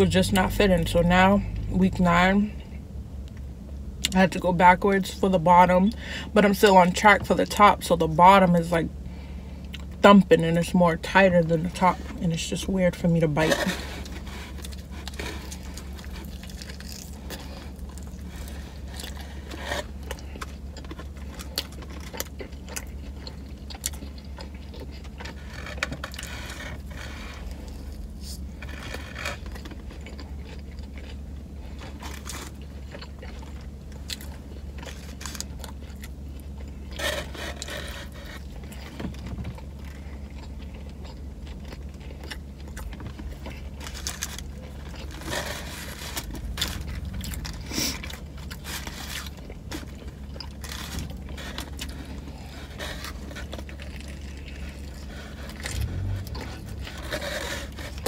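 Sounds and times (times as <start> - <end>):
chewing and crunching sandwich: 0.0 - 58.0
steady low hum: 0.0 - 58.0.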